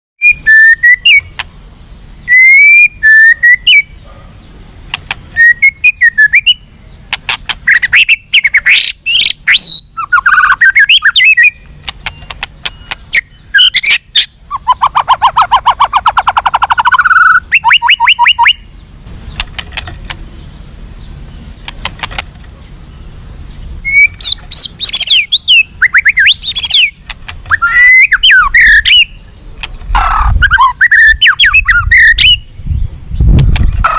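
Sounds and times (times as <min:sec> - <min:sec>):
songbird singing varied song: 0:00.2 - 0:33.9.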